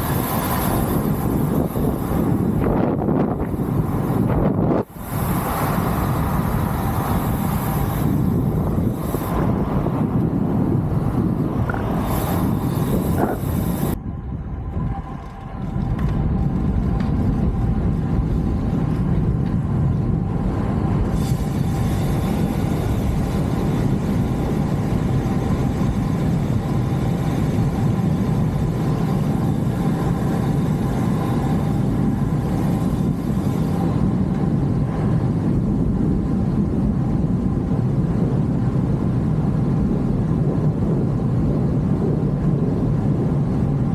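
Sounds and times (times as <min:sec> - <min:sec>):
road noise: 0:00.0 - 0:43.9
wind rushing on microphone: 0:00.0 - 0:43.9.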